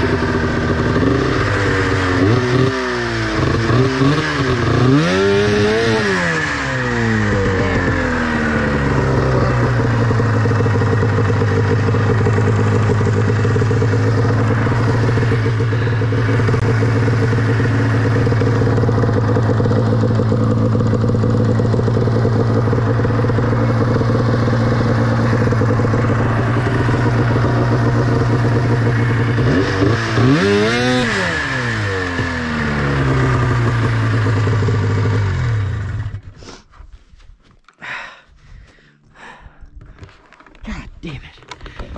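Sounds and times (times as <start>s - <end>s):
snowmobile engine running: 0.0s - 36.6s.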